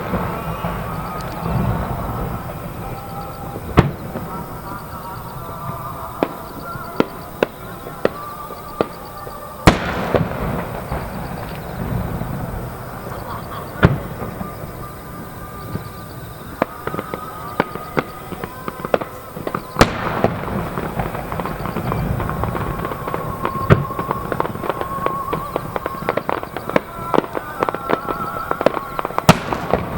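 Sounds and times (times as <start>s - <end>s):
fireworks booming: 0.0s - 29.9s
fireworks pops and crackles: 0.0s - 29.9s.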